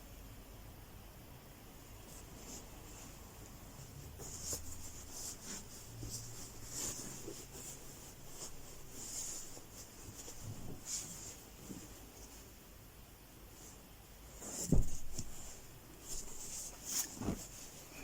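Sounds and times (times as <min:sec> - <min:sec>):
towel fabric rustling: 0:01.9 - 0:12.6, 0:13.5 - 0:18.0.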